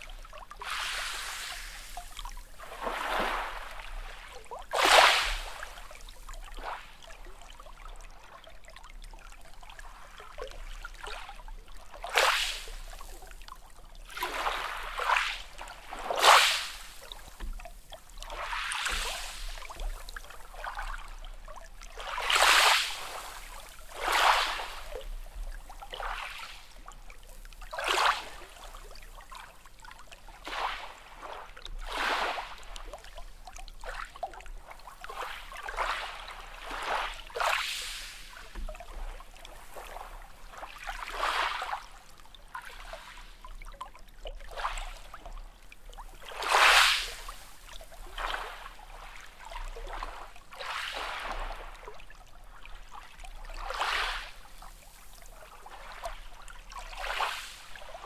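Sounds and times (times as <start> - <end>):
sea waves lapping and splashing: 0.0 - 58.0.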